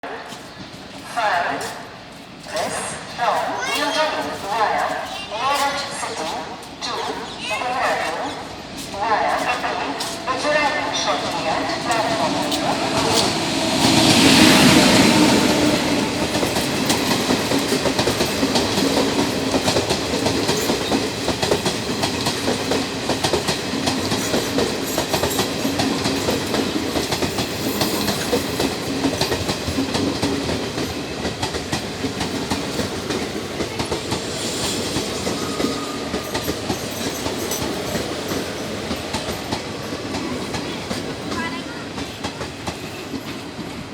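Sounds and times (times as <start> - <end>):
train wheels clicking over rail joints: 3.6 - 43.9.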